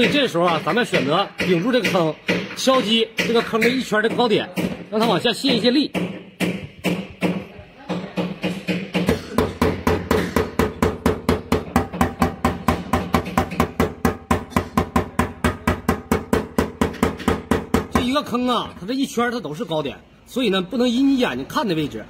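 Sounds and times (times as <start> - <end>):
tool tapping on metal panel: 0.0 - 18.2.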